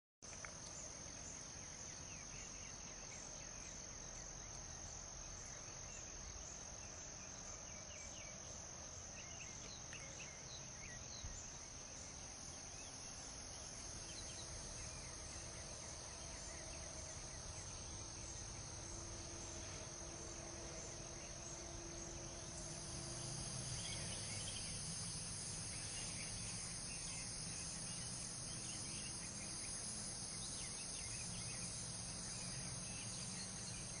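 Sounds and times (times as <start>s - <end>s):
crickets chirping: 0.2s - 34.0s
low background hum: 0.3s - 34.0s.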